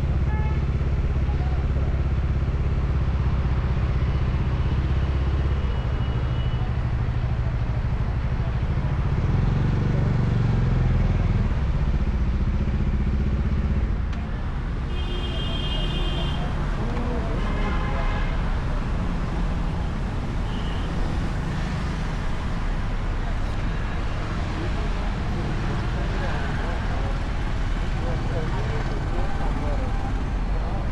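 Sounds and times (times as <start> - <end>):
vehicle road and engine rumble: 0.0 - 30.9.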